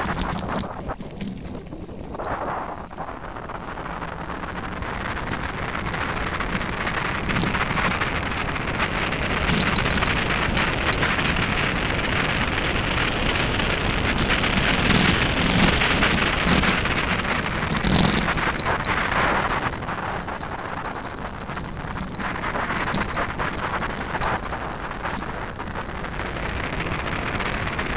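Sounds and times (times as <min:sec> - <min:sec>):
bike tyres crunching over gravel: 0:00.0 - 0:27.9
wind buffeting microphone: 0:00.0 - 0:27.9.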